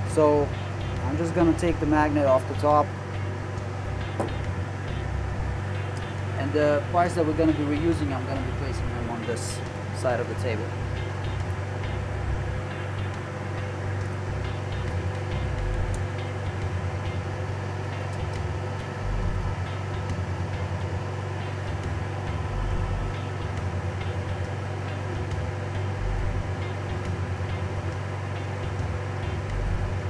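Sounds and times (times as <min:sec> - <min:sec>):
fan blower hum: 0:00.0 - 0:30.0.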